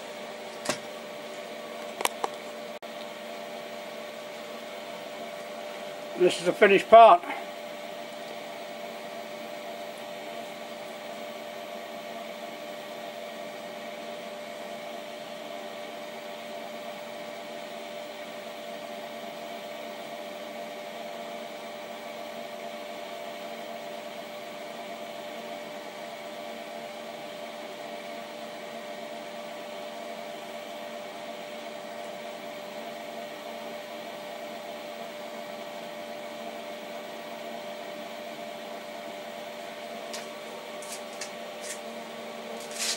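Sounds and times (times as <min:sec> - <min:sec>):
lathe machine hum: 0:00.0 - 0:42.9.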